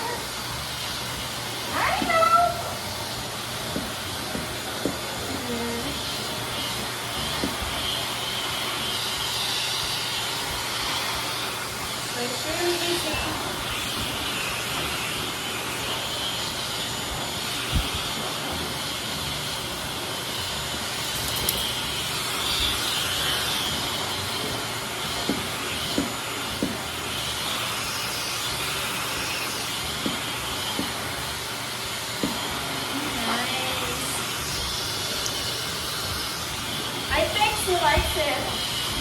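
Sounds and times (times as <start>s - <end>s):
dog dryer blowing air: 0.0s - 39.0s.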